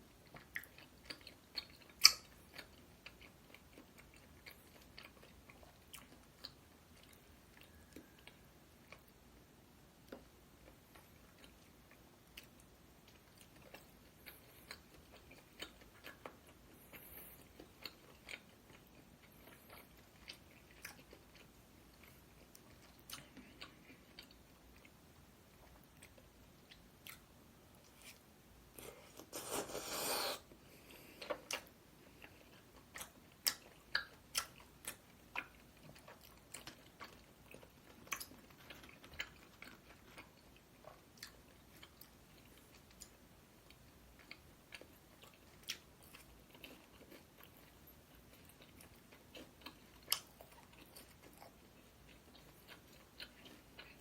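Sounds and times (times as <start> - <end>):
chewing food crunching: 0.2 - 9.2, 10.1 - 28.2, 30.8 - 54.0.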